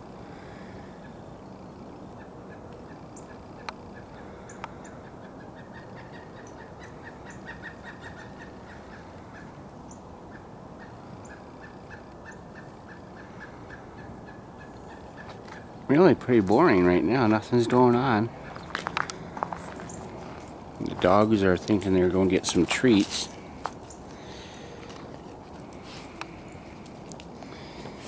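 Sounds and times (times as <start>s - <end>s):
background noise: 0.0s - 28.0s
woodpecker calling: 0.3s - 28.0s.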